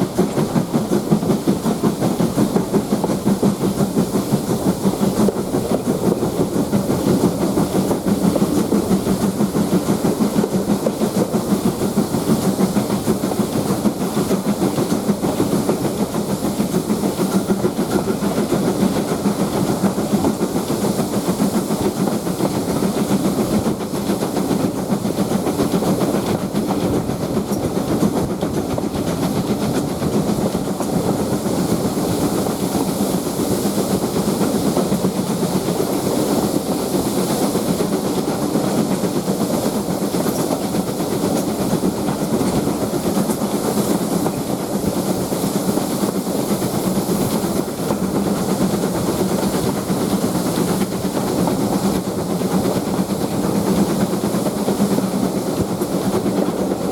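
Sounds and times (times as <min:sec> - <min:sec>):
steam hissing: 0:00.0 - 0:56.9
train wheels clattering on track: 0:00.0 - 0:56.9.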